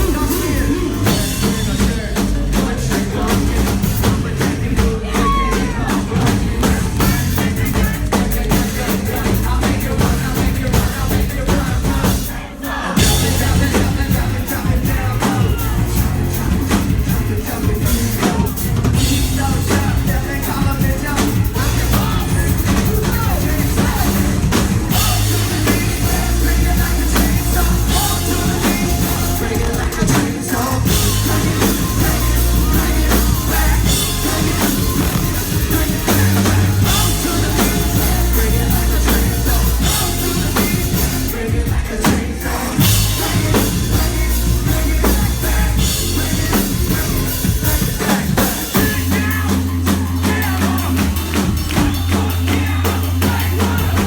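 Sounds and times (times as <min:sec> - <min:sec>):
drum kit: 0:00.0 - 0:54.0
heavy bass notes: 0:00.0 - 0:54.0
live rock band playing: 0:00.0 - 0:54.0
person singing: 0:00.0 - 0:54.0.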